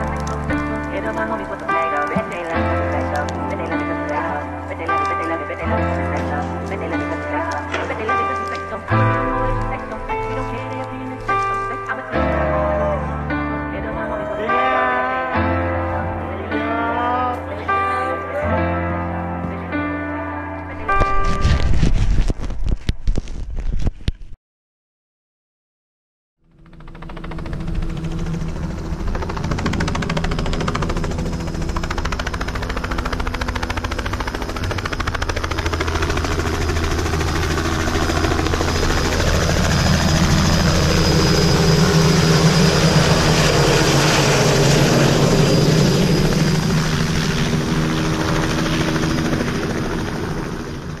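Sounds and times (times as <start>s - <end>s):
helicopter flying overhead: 0.0s - 21.4s, 26.4s - 51.0s.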